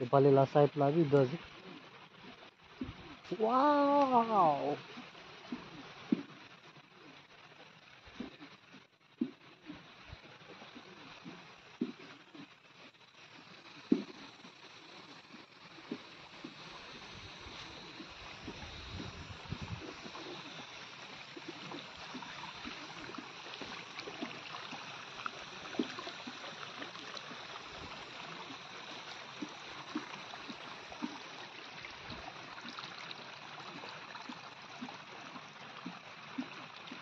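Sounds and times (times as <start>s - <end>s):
water running and trickling: 0.0s - 37.0s.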